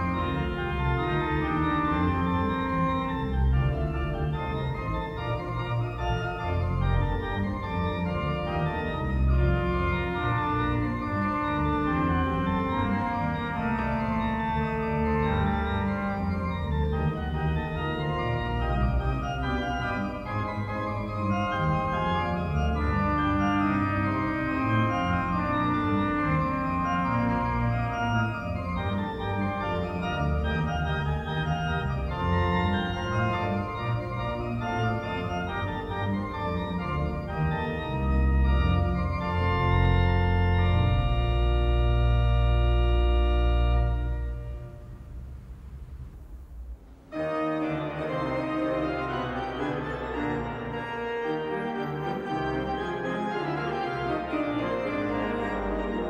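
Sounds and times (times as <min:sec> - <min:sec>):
pipe organ chords: 0:00.0 - 0:56.0.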